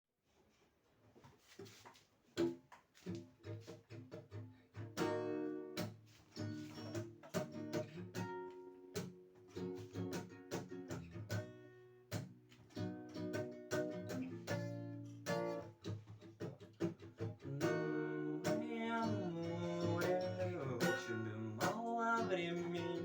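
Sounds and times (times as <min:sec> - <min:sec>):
acoustic guitar chords: 0:03.4 - 0:23.0.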